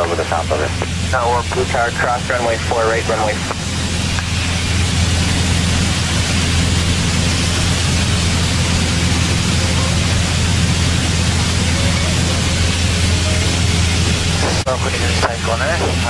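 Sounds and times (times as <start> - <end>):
air rushing in cabin: 0.0 - 16.0
aircraft engine and propeller drone: 0.0 - 16.0.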